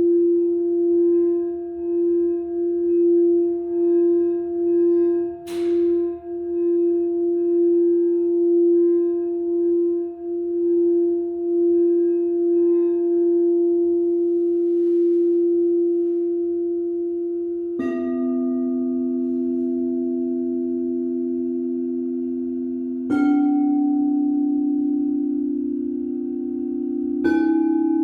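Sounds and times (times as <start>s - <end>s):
singing bowls ringing: 0.0s - 28.0s.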